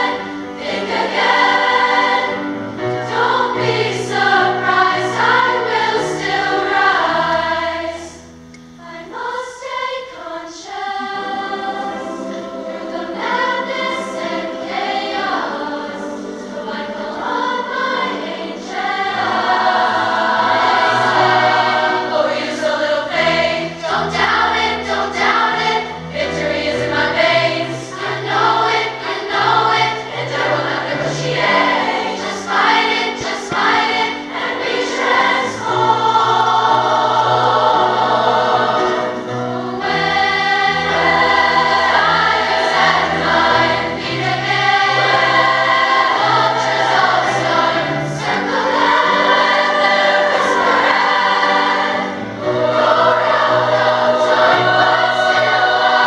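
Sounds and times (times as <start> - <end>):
piano accompaniment: 0.0 - 9.5, 10.8 - 56.0
choir singing in harmony: 0.0 - 56.0.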